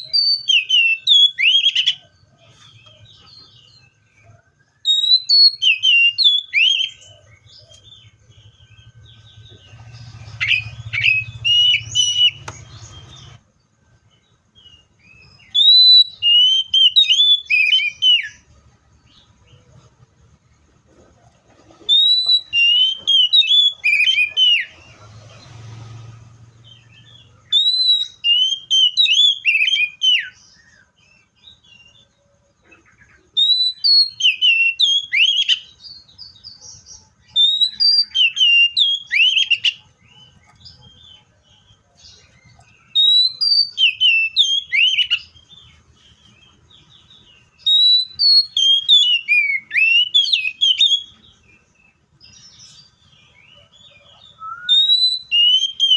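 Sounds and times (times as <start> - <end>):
bird singing whistled phrases: 0.0 - 2.2, 2.8 - 13.4, 14.6 - 18.4, 21.9 - 24.8, 26.6 - 32.1, 33.3 - 55.9.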